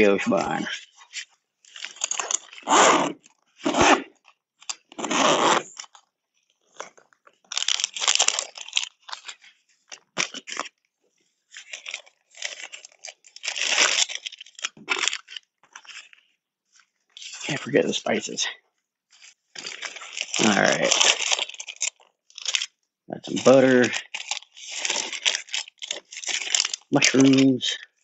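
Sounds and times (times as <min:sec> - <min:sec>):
plastic bags crinkling: 0:00.0 - 0:03.4, 0:05.6 - 0:10.8, 0:11.5 - 0:18.2, 0:19.2 - 0:28.0.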